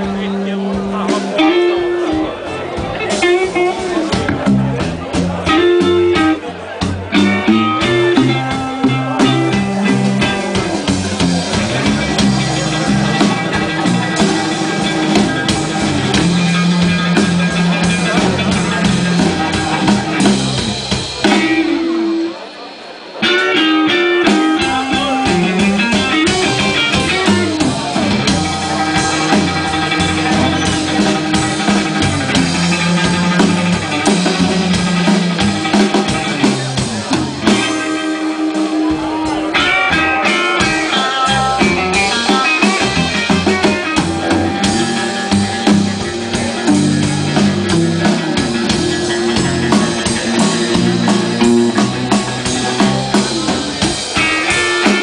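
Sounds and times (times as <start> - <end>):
blues-rock band playing: 0.0 - 55.0.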